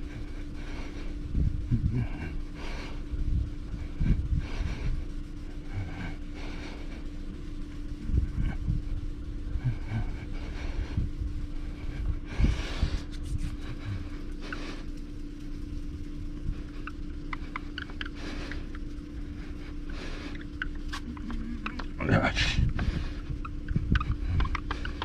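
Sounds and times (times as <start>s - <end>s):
low hum and rumble: 0.0s - 25.0s.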